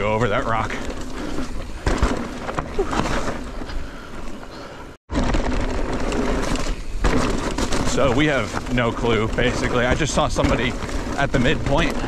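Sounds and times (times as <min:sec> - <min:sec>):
tyre rumble: 0:00.0 - 0:04.0, 0:05.1 - 0:12.0
bike rattling: 0:00.0 - 0:12.0.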